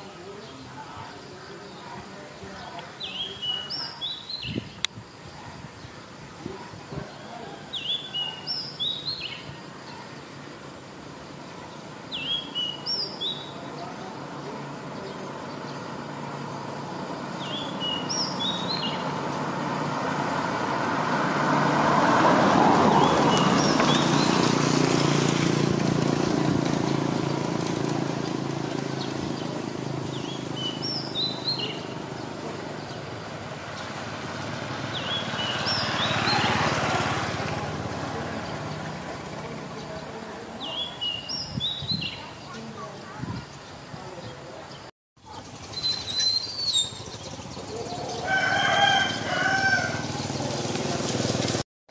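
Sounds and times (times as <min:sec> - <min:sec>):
songbird chirping: 0:00.0 - 0:51.0.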